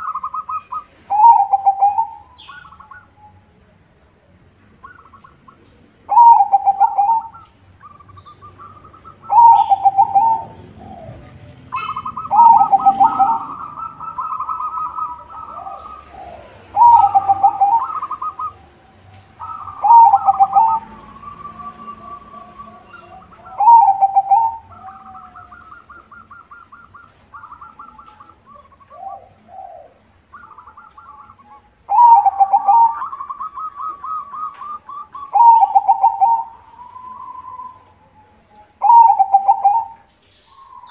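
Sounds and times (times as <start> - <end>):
dove cooing: 0.0 - 3.6, 4.8 - 40.9.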